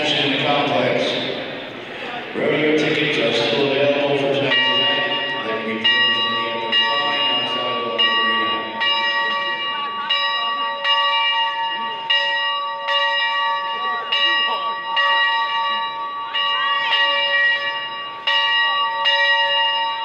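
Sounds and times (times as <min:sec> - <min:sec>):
steam locomotive bell ringing: 0:00.0 - 0:20.0.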